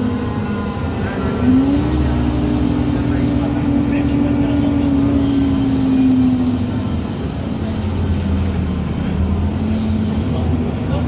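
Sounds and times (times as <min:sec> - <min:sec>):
low drivetrain rumble: 0:00.0 - 0:11.0.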